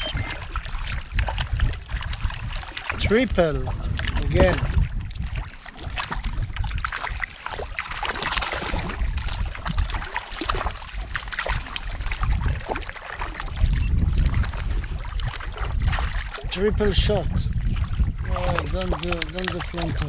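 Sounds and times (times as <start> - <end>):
water sloshing around kayak: 0.0 - 20.0
wind buffeting microphone: 0.0 - 20.0.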